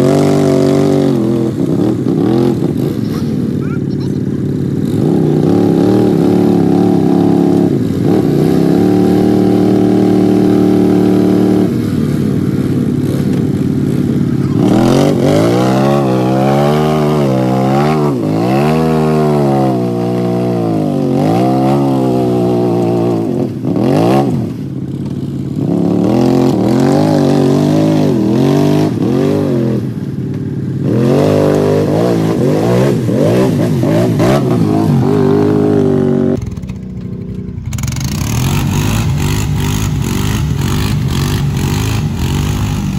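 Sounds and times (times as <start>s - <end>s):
tyres churning through mud: 0.0s - 24.6s, 25.6s - 30.0s, 30.8s - 42.9s
atv engine revving: 0.0s - 42.9s.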